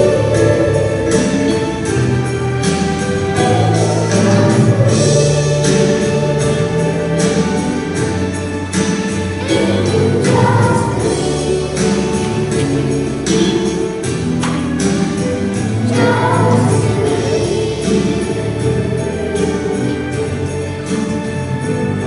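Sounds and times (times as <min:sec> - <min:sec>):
choir singing over music: 0:00.0 - 0:22.0.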